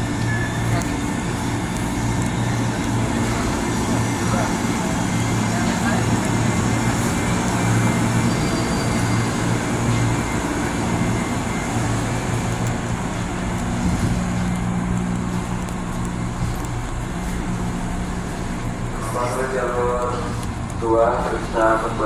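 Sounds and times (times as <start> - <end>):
electric train hum and rumble: 0.0 - 22.0.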